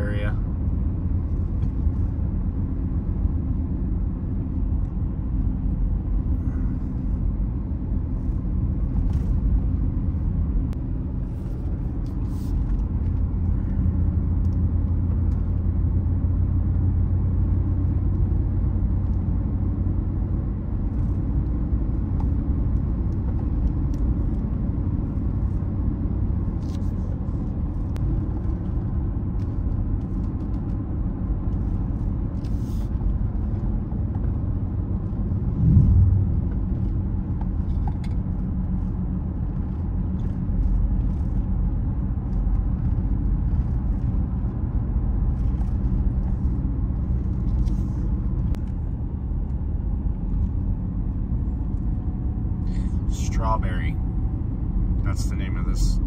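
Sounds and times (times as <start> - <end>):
tyre noise on road: 0.0 - 56.0
vehicle engine rumble: 0.0 - 56.0.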